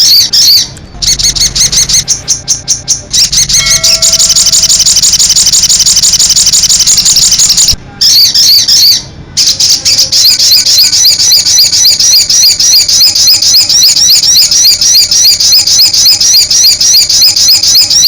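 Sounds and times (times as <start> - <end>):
bird shrill chirping call: 0.0 - 18.0.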